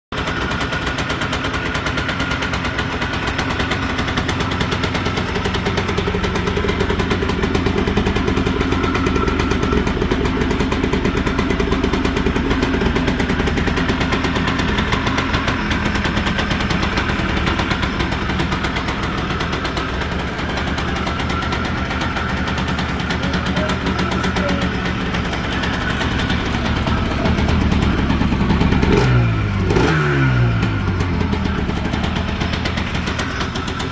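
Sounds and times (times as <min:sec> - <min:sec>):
two-stroke engine with rattling knock: 0:00.1 - 0:33.9.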